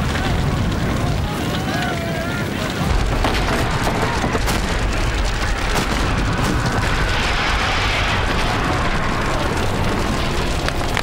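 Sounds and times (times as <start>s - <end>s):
large fire crackling: 0.0s - 11.0s.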